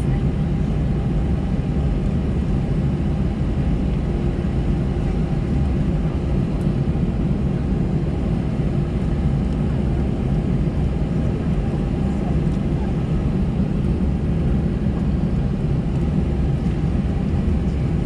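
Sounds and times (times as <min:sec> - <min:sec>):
aircraft cabin drone: 0:00.0 - 0:18.0.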